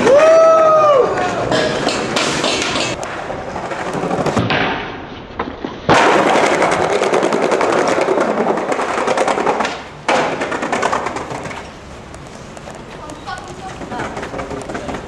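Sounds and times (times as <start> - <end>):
skateboard wheels rattling on planks: 0.2 - 15.0.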